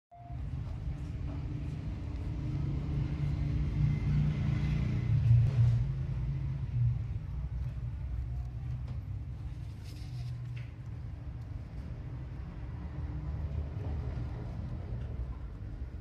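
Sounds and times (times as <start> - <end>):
mechanical hum and rumble: 0.2 - 16.0.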